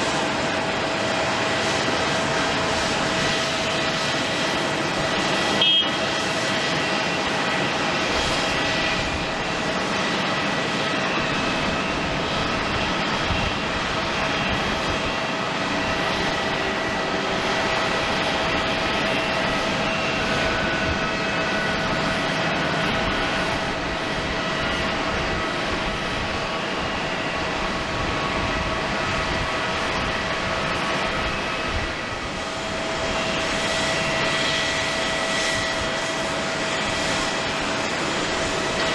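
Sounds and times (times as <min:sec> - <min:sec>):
jet engine high whine: 0:00.0 - 0:38.9
jet engines rushing: 0:00.0 - 0:38.9.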